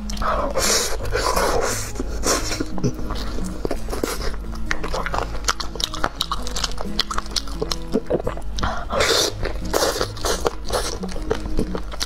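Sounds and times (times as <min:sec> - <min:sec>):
background music with low notes: 0:00.0 - 0:12.0
biting and chewing: 0:00.0 - 0:12.0.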